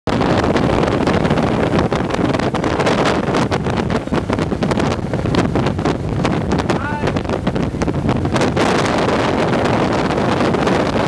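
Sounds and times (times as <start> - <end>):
boat engine rumble: 0.1 - 11.0
wind buffeting microphone: 0.1 - 11.0.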